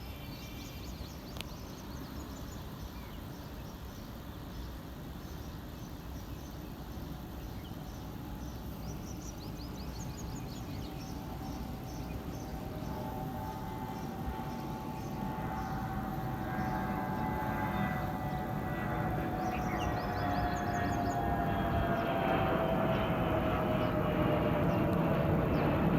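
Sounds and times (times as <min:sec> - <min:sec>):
low outdoor background rumble: 0:00.0 - 0:25.9
small birds chirping: 0:00.1 - 0:25.9.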